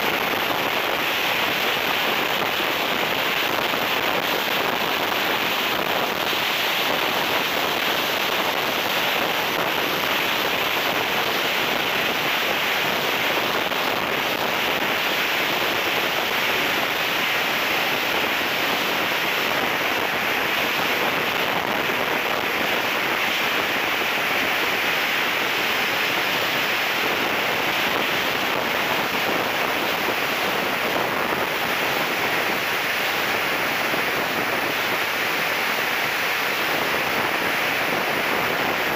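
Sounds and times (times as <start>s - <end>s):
faint high whine: 0.0s - 38.9s
jet turbine noise: 0.0s - 38.9s
rush of air: 0.0s - 38.9s.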